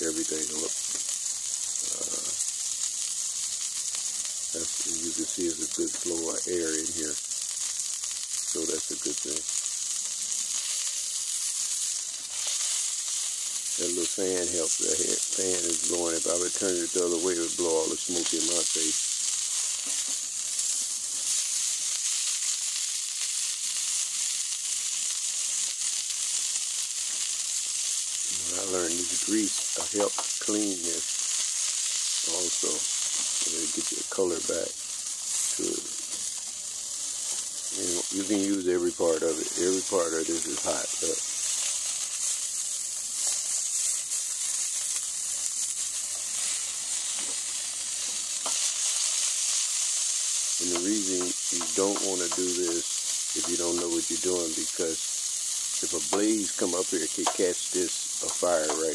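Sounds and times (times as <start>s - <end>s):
sausage sizzling on hot metal: 0.0s - 58.9s.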